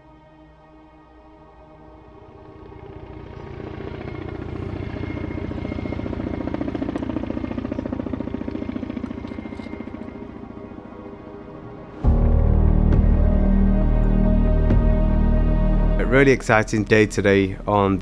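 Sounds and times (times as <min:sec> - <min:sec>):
background music: 0:00.0 - 0:18.0
helicopter rotor beat: 0:01.8 - 0:18.0.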